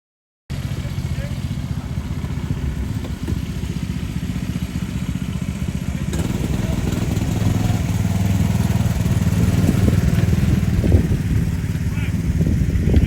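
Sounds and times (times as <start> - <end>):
quad engine idling: 0.5 - 13.0.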